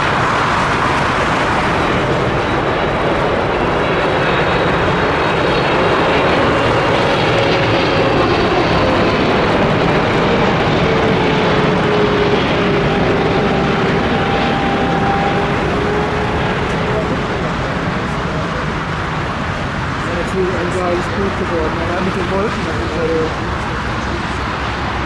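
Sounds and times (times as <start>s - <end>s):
jet engine roar with whine: 0.0s - 25.0s.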